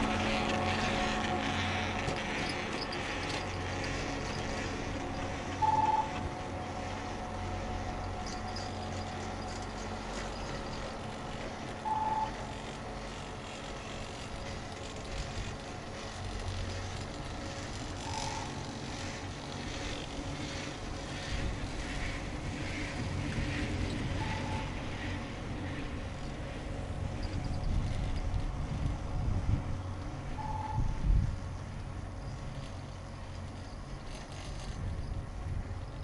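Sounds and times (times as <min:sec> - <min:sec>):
chairlift running hum: 0:00.0 - 0:36.0.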